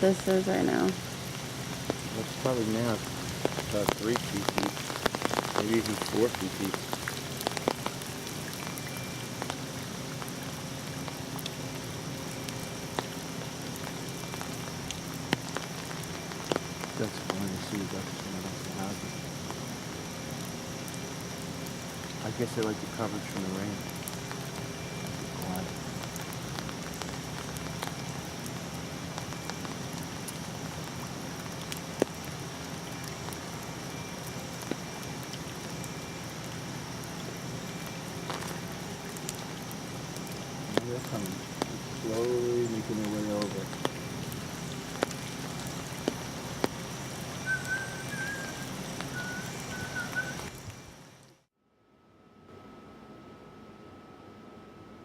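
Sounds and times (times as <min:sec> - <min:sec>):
steady rain falling: 0:00.0 - 0:51.5.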